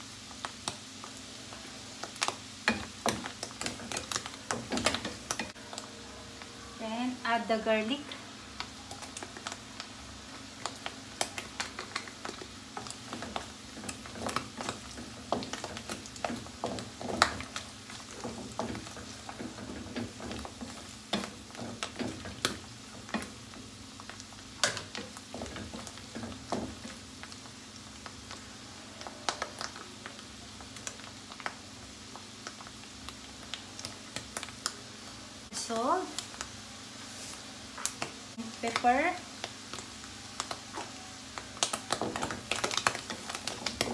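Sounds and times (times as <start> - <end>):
mushrooms sizzling in butter: 0.0 - 43.9.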